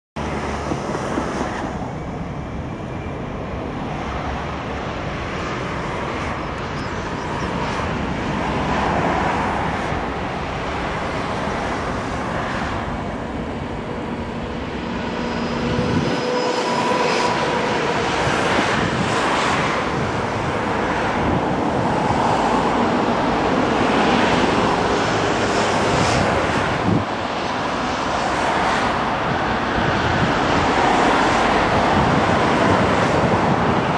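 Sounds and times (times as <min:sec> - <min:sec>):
jet engines rumbling with whine: 0:00.2 - 0:33.9.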